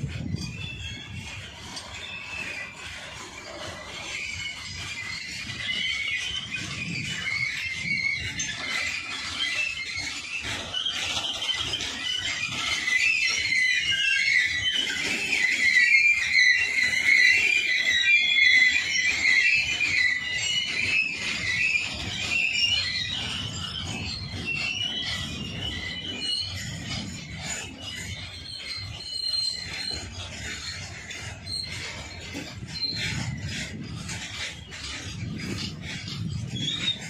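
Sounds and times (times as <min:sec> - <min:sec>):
low rumble of rolling wagons: 0:00.0 - 0:37.0
train wheels squealing on rails: 0:00.0 - 0:37.0.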